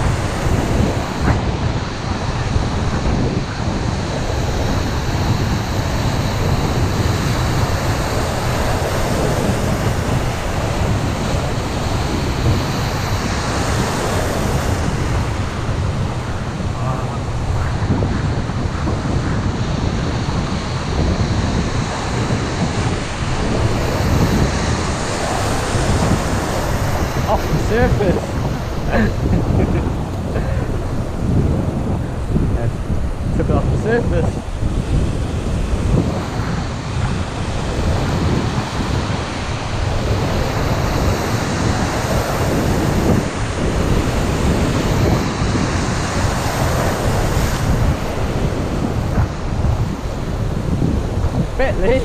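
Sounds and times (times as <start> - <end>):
surf breaking and churning: 0.0 - 52.0
wind buffeting microphone: 0.0 - 52.0.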